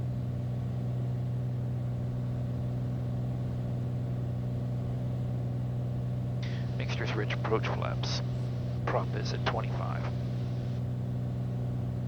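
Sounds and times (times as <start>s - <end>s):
piston aircraft engine drone: 0.0s - 12.0s.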